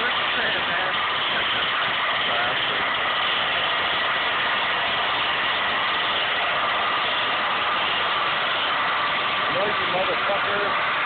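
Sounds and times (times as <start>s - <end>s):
steady machine drone: 0.0s - 11.0s.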